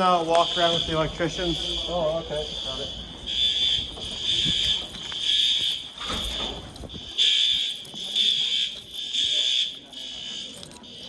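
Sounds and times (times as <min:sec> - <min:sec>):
fire alarm horns pulsing: 0:00.0 - 0:11.0.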